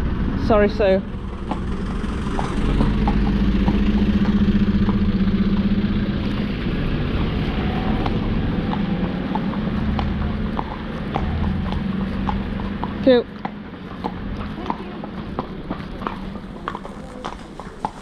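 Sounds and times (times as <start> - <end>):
vehicle engine humming: 0.0 - 18.0
horse hooves clicking on road: 0.1 - 18.0.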